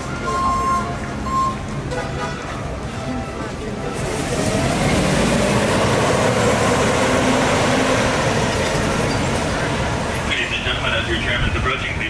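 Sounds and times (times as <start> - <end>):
tram engine and road noise: 0.0 - 12.0.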